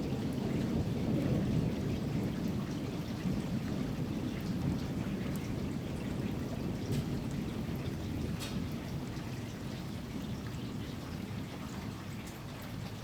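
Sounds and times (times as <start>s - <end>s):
steady rain ticking: 0.0s - 13.0s.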